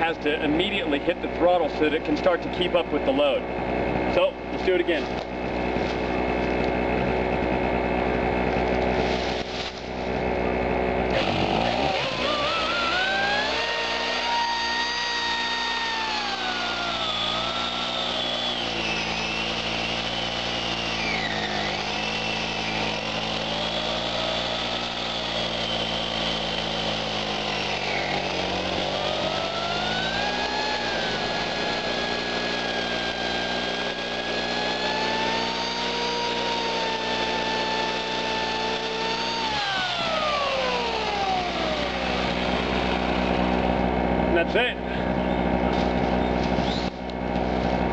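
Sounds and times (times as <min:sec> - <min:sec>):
electric chainsaw cutting wood: 0:00.0 - 0:47.9
generator engine running: 0:00.0 - 0:47.9.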